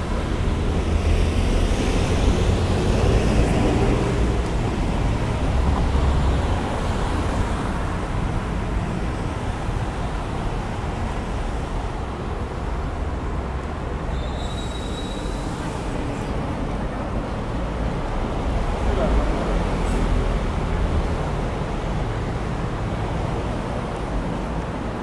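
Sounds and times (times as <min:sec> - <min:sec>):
traffic: 0:00.0 - 0:25.0
wind and road noise: 0:00.0 - 0:25.0.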